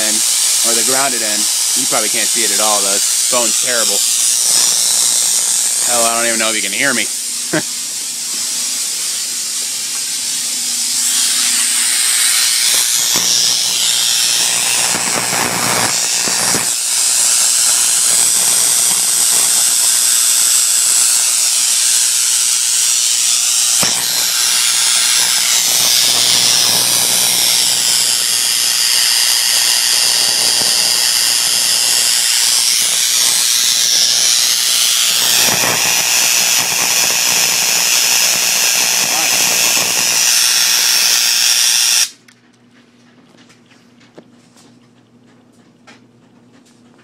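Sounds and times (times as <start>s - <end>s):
tesla coil hiss and buzz: 0.0s - 42.2s
sharp electric snaps: 0.0s - 42.4s.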